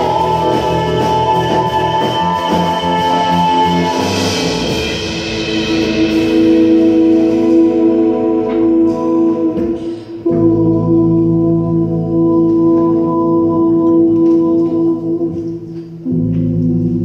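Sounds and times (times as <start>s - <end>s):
jazz band playing: 0.0s - 17.0s.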